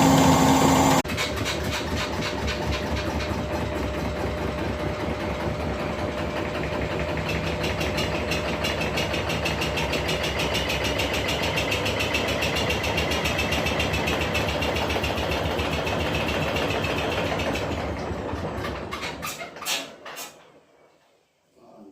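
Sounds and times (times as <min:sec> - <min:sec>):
washing machine spinning: 0:00.0 - 0:20.8.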